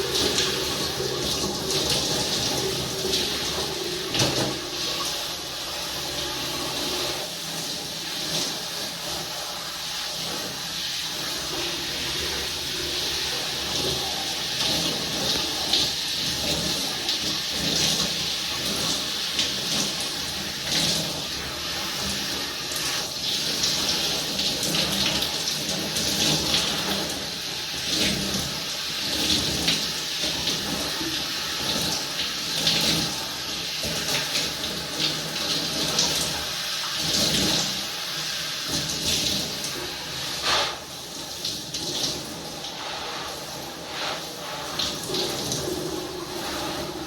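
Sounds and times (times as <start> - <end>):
water running and splashing: 0.0 - 47.0.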